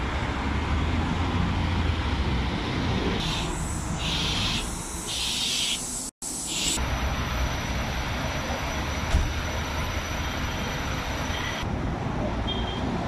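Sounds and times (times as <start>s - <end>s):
road vehicles rumbling: 0.0s - 13.0s.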